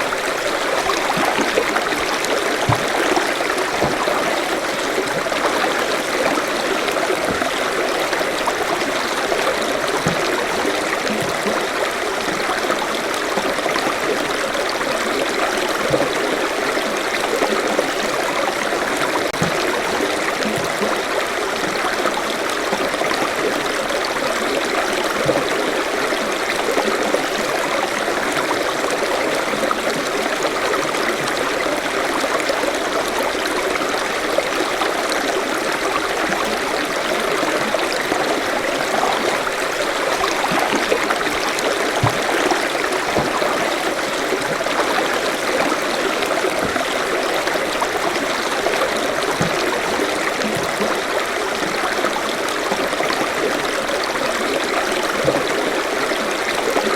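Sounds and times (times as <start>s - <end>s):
stream running over rocks: 0.0s - 56.9s.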